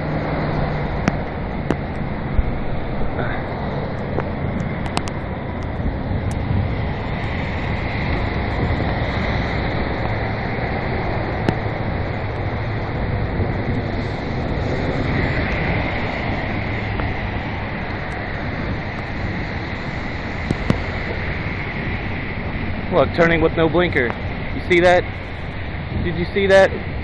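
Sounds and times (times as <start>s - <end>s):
car tyres hissing on wet road: 0.0s - 27.0s
heavy rain: 0.0s - 27.0s
wind on microphone: 0.0s - 27.0s.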